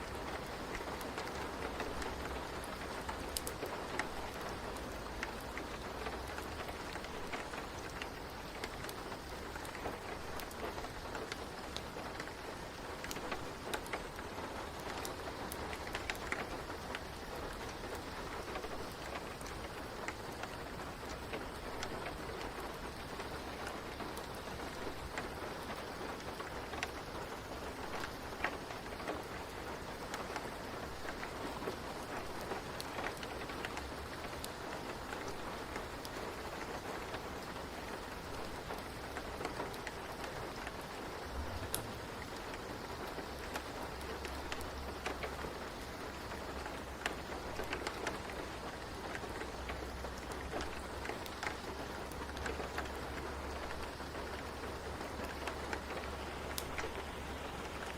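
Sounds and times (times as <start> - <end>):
steady rain hissing: 0.0 - 57.9.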